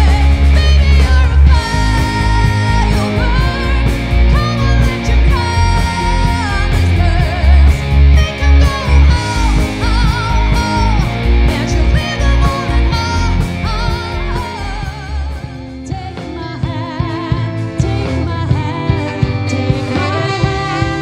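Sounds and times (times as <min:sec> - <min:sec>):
bass guitar: 0:00.0 - 0:21.0
drum kit: 0:00.0 - 0:21.0
electric guitar: 0:00.0 - 0:21.0
keyboard: 0:00.0 - 0:21.0
woman singing with vibrato: 0:00.0 - 0:21.0.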